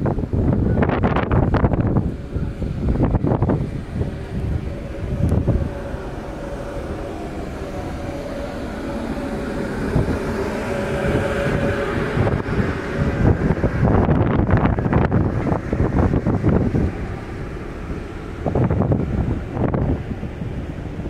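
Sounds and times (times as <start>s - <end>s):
faint steady hum: 0.0s - 21.0s
ferry engines droning: 0.0s - 21.0s
wind buffeting microphone: 0.0s - 21.0s.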